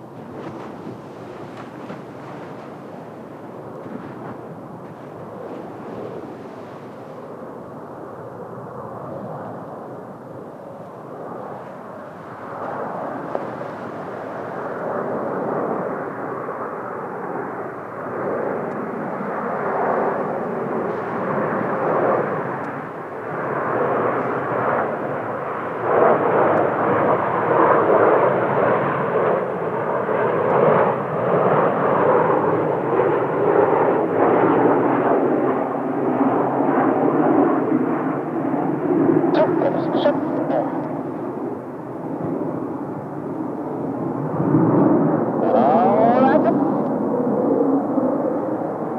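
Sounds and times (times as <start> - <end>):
jets flying overhead: 0.0 - 48.9.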